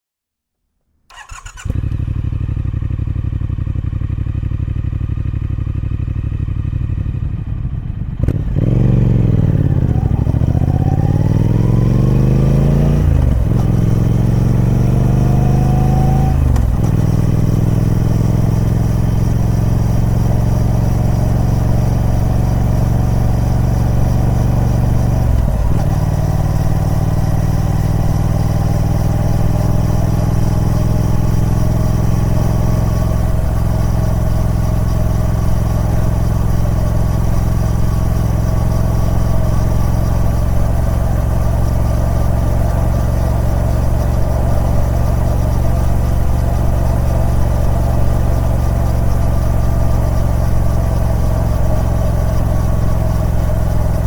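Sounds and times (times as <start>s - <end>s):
motorcycle engine revving: 1.1s - 54.0s.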